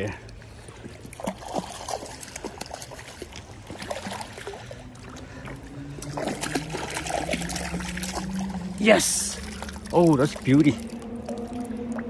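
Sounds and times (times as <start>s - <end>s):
running water: 0.0s - 12.0s
fish splashing at surface: 1.0s - 12.0s.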